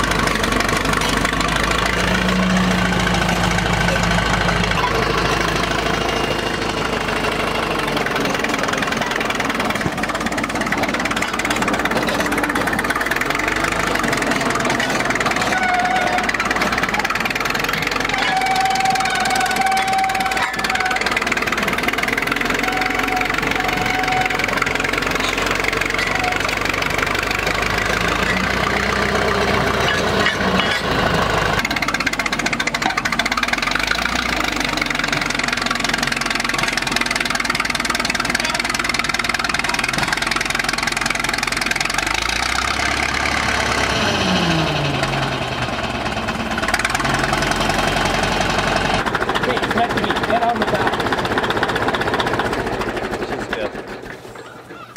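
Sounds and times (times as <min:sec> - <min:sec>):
bulldozer engine running: 0:00.0 - 0:54.9.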